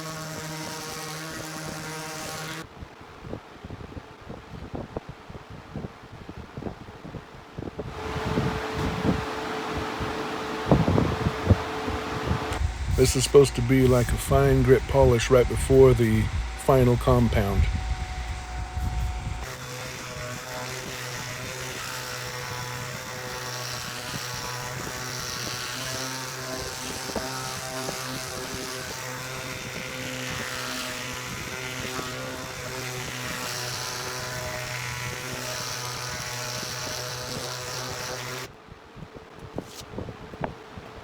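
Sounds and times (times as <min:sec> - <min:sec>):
electric polisher motor hum: 0:00.0 - 0:02.6, 0:07.9 - 0:38.5.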